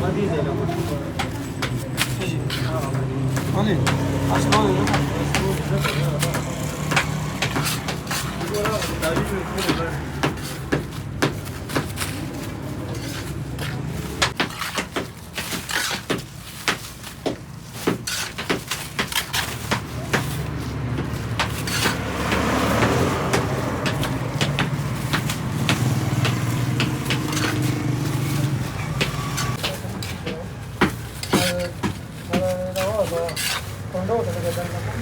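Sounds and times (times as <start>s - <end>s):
knocks and clatter: 0.8s - 33.5s.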